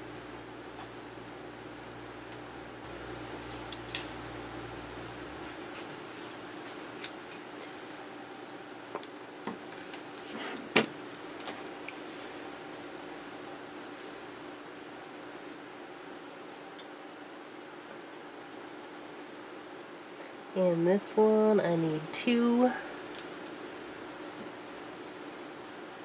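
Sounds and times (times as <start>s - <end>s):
background hum: 0.0s - 26.0s.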